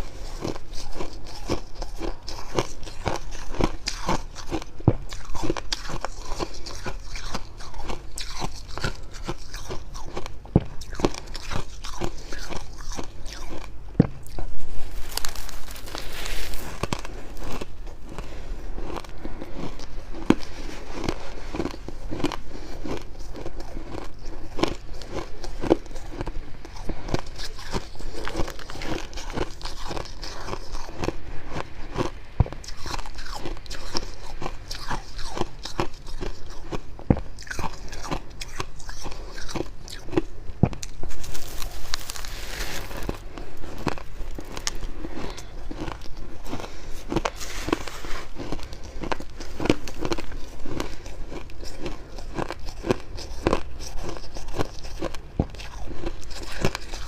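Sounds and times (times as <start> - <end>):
frost being crunched and chewed: 0.0 - 57.0.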